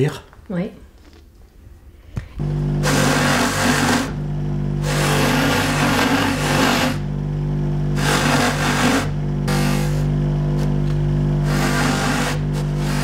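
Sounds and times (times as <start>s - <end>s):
polishing motor humming: 2.4s - 13.0s.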